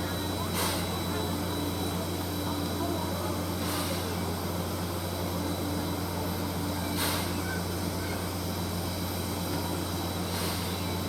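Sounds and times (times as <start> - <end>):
steam locomotive low hum: 0.0 - 11.0
steam hiss: 0.1 - 11.0.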